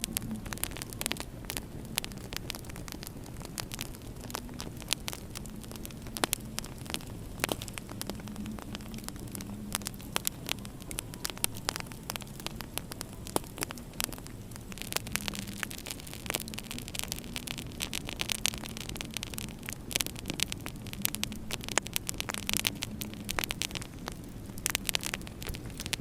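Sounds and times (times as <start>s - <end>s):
low steady hum: 0.0s - 26.0s
wood fire crackling: 0.0s - 26.0s.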